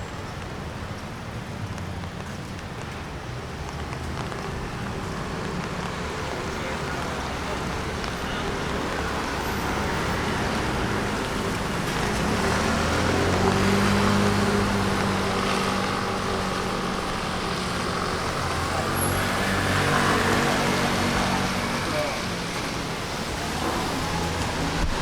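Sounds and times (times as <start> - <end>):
traffic hiss: 0.1 - 25.0
vehicle engine humming: 3.6 - 25.0.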